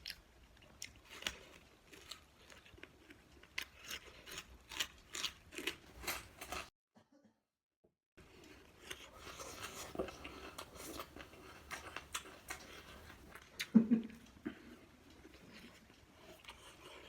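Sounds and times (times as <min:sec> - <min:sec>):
chewing and crunching food: 0:00.0 - 0:06.7, 0:08.2 - 0:17.0.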